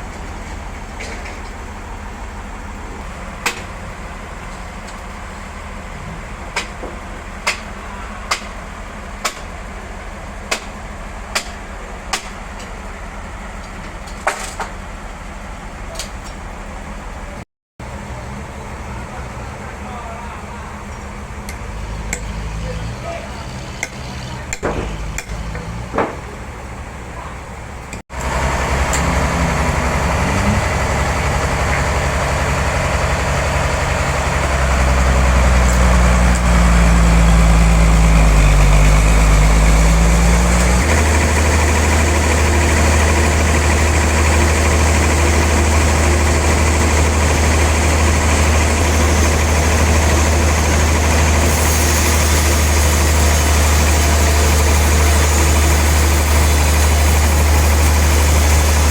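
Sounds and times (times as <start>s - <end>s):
heavy engine running: 0.0s - 58.9s.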